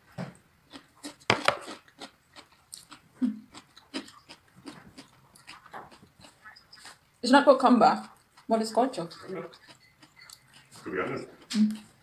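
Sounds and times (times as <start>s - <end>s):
crunchy chewing: 0.6s - 7.2s, 7.9s - 12.0s.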